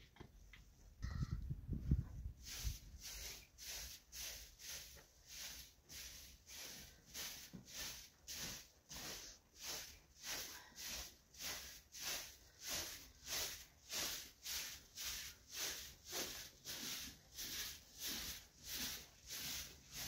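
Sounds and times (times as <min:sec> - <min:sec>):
hand broom sweeping earthen floor: 0:02.0 - 0:20.0.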